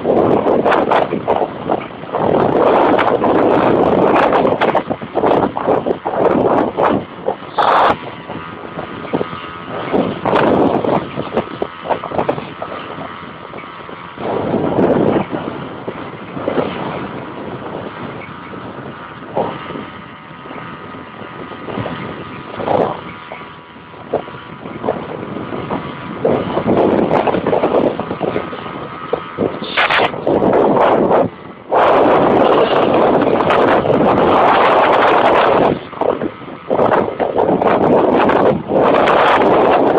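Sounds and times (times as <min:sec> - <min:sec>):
storm wind buffeting microphone: 0:00.0 - 0:39.9.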